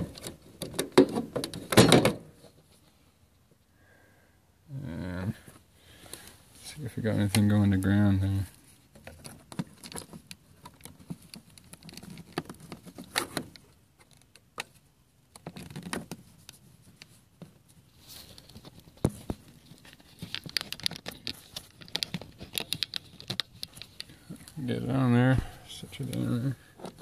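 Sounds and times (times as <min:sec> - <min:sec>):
handling clicks and rustles: 0:00.0 - 0:03.0, 0:05.5 - 0:27.0.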